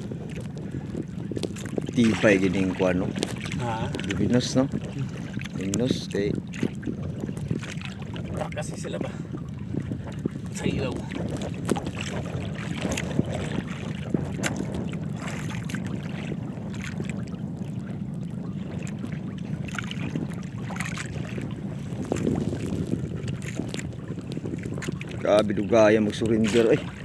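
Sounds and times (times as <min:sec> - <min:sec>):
low rumble of boat: 0:00.0 - 0:27.0
water splashes: 0:00.0 - 0:27.0.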